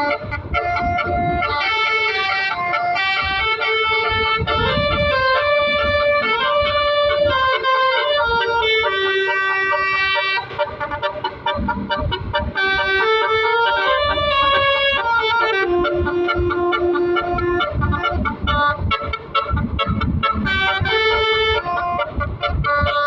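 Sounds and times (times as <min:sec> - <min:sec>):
multi-tone bus horn melody: 0:00.0 - 0:23.0
low rumble: 0:02.2 - 0:23.0.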